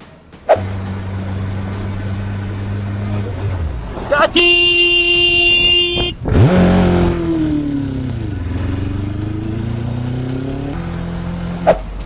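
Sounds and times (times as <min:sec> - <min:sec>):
vehicle engine running: 0:00.3 - 0:12.0.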